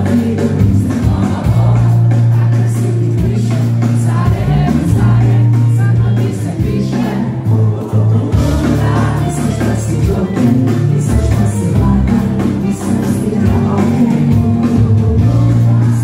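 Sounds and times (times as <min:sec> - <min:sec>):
live band playing loud music: 0:00.0 - 0:16.0
person singing: 0:00.0 - 0:16.0.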